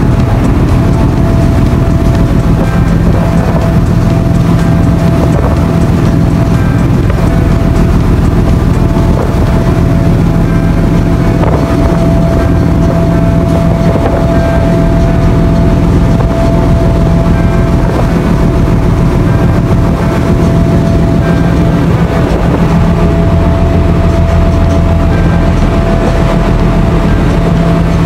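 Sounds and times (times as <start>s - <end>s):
ferry engines droning: 0.0s - 28.0s
wake water rushing along hull: 0.0s - 28.0s.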